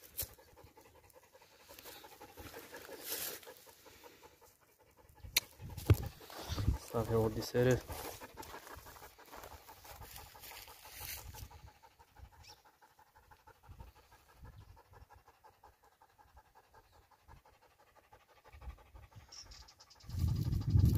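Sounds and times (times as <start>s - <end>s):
dog panting: 0.0s - 20.9s.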